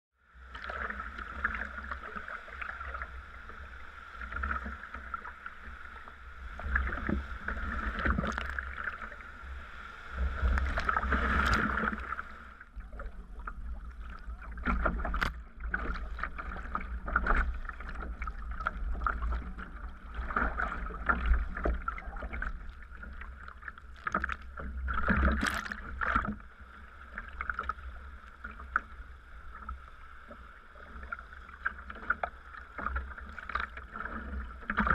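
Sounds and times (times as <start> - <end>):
water washing against hull: 0.3 - 34.9
paddle splashing in water: 0.5 - 34.9.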